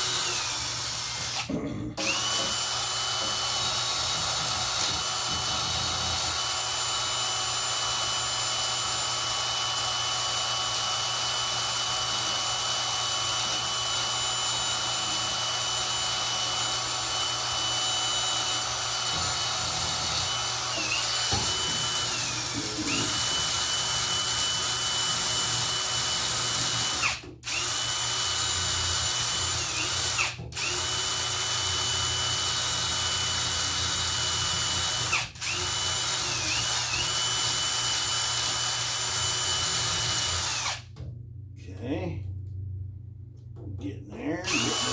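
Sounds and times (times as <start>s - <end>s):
power tool motor whining: 0.0s - 40.8s, 44.4s - 44.9s.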